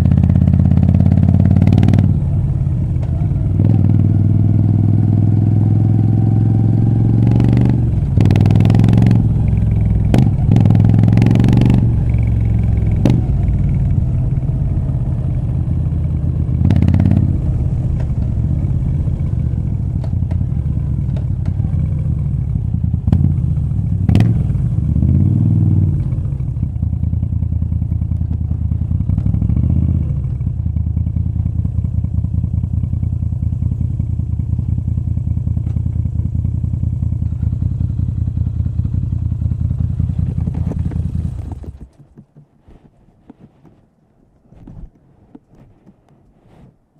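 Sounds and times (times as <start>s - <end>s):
motorcycle engine revving: 0.0s - 42.2s.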